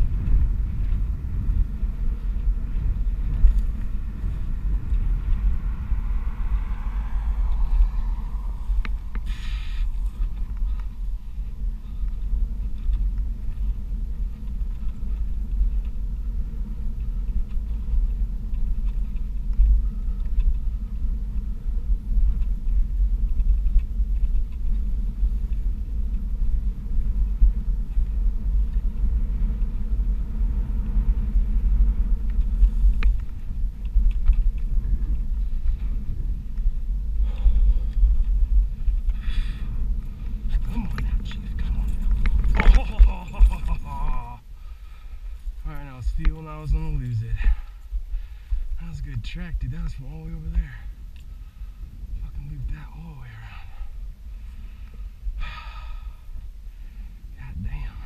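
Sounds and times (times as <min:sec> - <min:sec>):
electric board rolling on dirt: 0:00.0 - 0:58.0.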